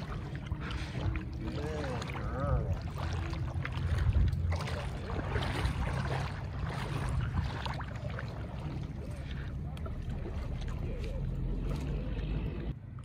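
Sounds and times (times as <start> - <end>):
low rumble: 0.0 - 13.0
paddle splashing water: 0.0 - 13.0.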